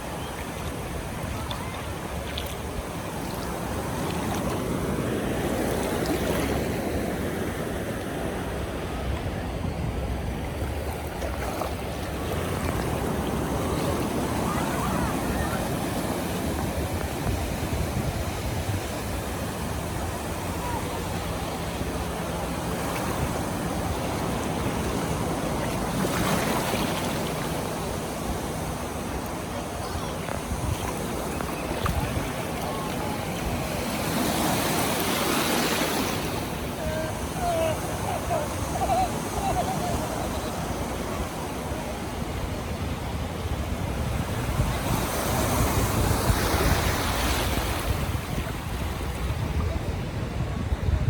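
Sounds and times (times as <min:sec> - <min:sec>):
wind rumbling on microphone: 0:00.0 - 0:34.6, 0:36.3 - 0:51.0
ocean surf washing on beach: 0:00.0 - 0:51.0.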